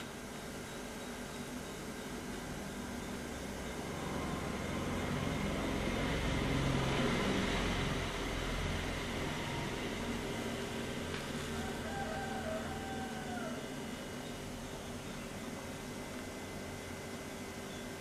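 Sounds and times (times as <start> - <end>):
low mechanical hum with hiss: 0.0 - 18.0.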